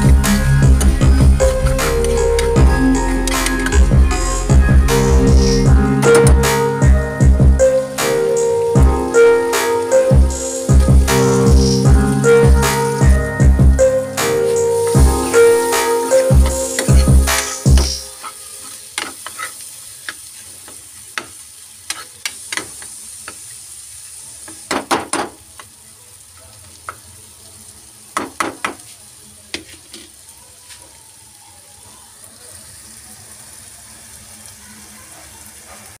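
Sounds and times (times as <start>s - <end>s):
pan sizzling: 0.0s - 36.0s.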